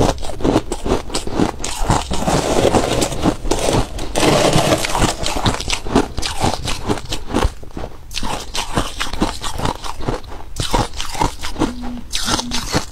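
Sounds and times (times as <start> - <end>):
crushed ice being chewed: 0.0 - 12.9.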